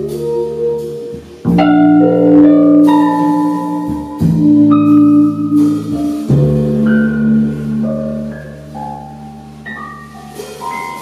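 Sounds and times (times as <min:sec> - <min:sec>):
saxophone: 0:00.0 - 0:09.6
double bass: 0:00.0 - 0:11.0
drums: 0:00.0 - 0:11.0.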